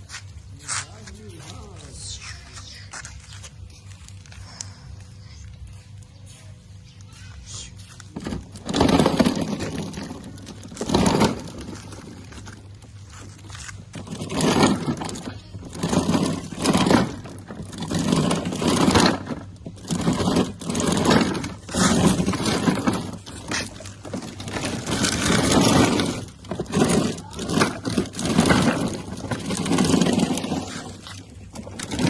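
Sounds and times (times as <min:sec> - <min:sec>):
rough scraping and crunching: 0:00.0 - 0:32.0.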